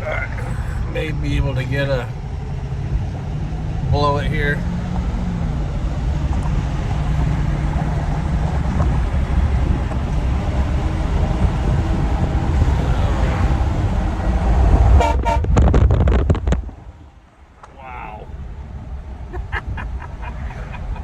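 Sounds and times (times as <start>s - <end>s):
pickup truck engine and road noise: 0.0s - 15.0s, 17.9s - 21.0s.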